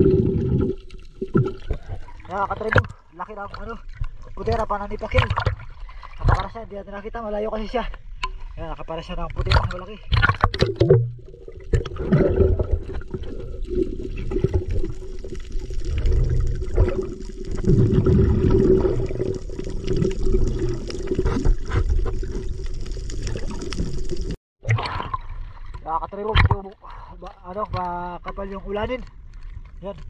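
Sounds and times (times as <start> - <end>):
water sloshing and gurgling: 0.0 - 30.0.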